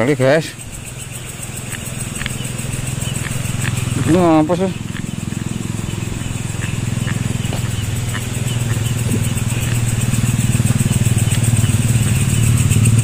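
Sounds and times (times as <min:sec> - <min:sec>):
small engine humming: 0:00.0 - 0:13.0
thin high steady tone: 0:00.0 - 0:13.0.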